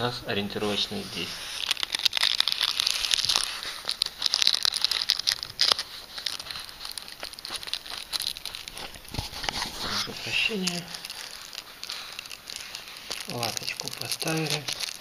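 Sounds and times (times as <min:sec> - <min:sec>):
vinyl and plastic film crinkling: 0:00.5 - 0:15.0.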